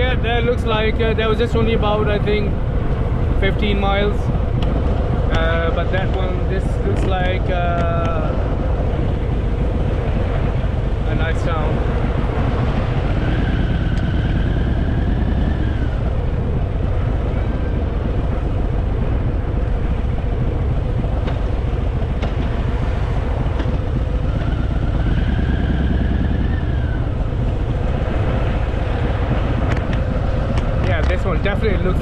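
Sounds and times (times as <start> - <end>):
motorcycle engine rumbling: 0.0 - 32.0
wind and road noise: 0.0 - 32.0.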